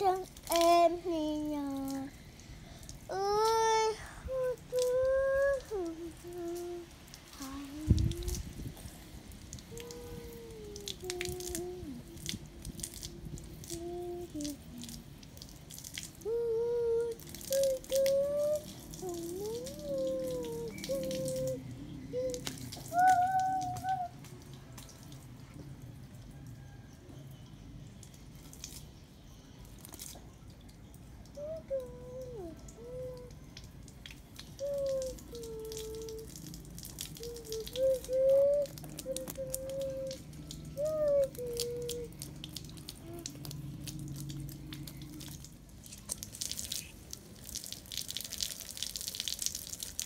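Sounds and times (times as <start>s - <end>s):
water dripping and splashing: 0.0s - 50.0s.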